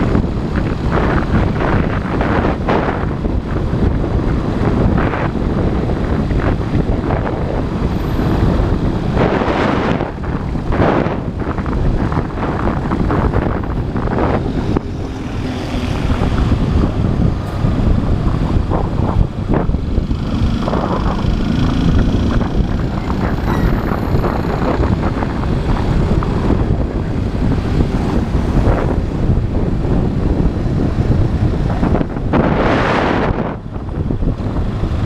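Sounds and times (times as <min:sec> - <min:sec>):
motorcycle engine: 0:00.0 - 0:32.0
wind buffeting microphone: 0:00.0 - 0:35.0.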